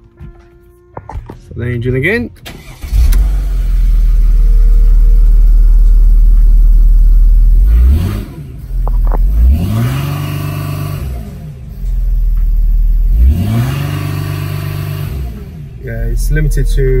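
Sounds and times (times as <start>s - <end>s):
diesel engine idling and revving: 2.4s - 17.0s.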